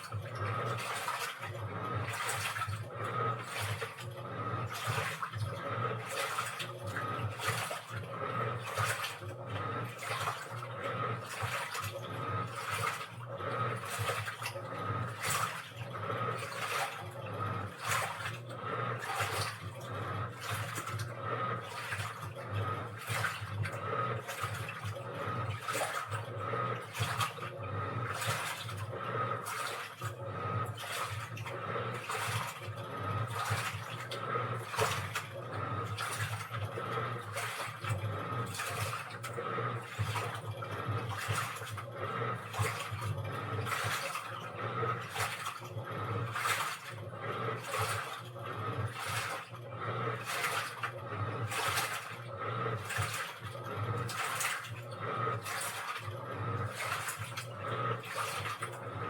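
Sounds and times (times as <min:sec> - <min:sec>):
motor hum: 0:00.0 - 0:59.0
water sloshing in washing machine: 0:00.0 - 0:59.0.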